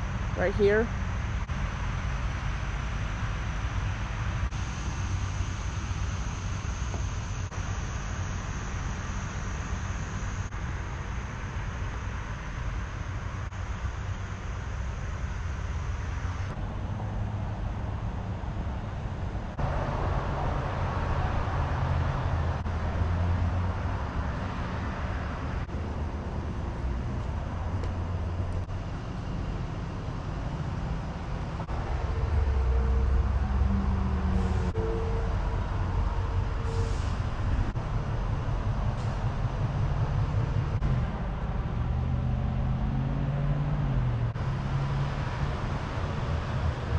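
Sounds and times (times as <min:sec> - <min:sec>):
engine hum: 0:00.0 - 0:46.9
traffic rumble: 0:00.0 - 0:46.9.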